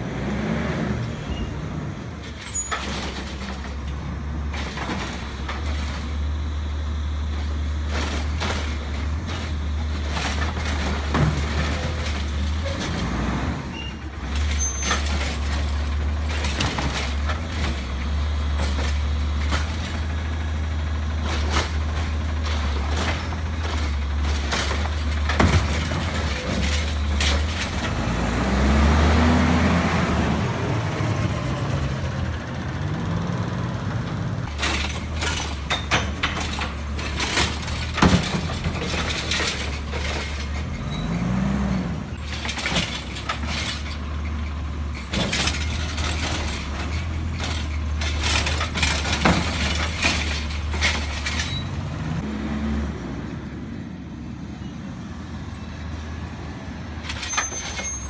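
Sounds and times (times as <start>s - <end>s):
garbage truck diesel engine revving: 0.0s - 2.0s, 2.9s - 54.0s.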